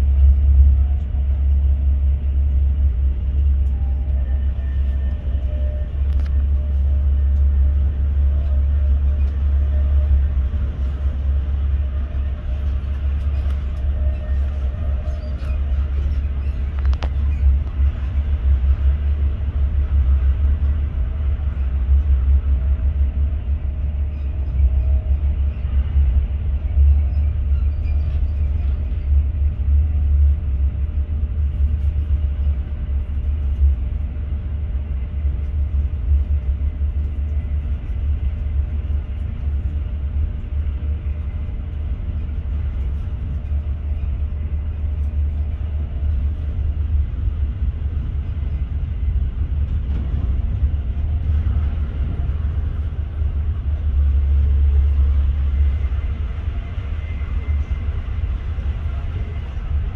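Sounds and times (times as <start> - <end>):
faint hum: 0.0 - 59.9
train running gear rumble: 0.0 - 59.9.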